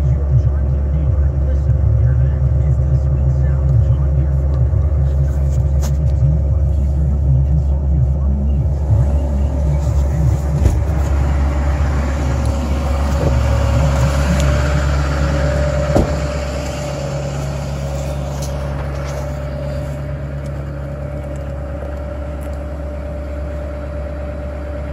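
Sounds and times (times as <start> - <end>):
diesel engine idling: 0.0 - 24.9.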